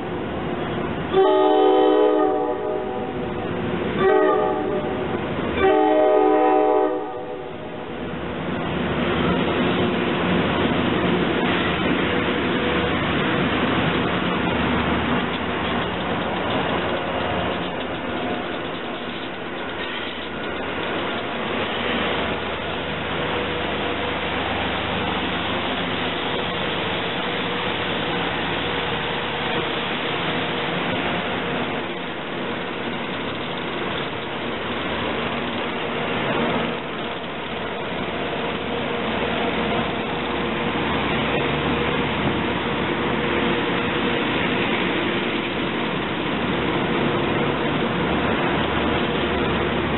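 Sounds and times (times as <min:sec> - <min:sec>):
electric locomotives moving past: 0:00.0 - 0:49.9.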